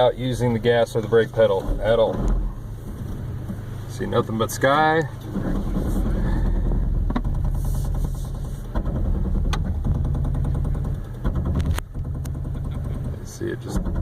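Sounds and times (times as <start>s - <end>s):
brakes pulsing with rattling clatter: 0.0s - 14.0s
engine droning: 0.0s - 14.0s.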